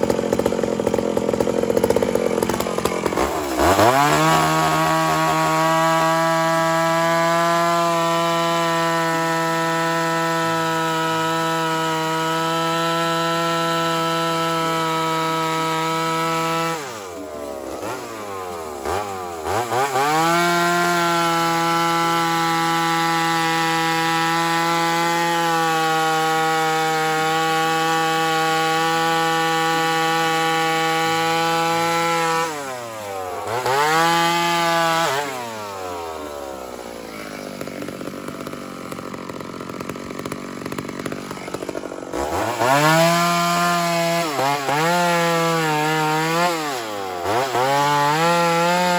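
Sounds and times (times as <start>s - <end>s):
two-stroke chainsaw revving: 0.0s - 48.9s.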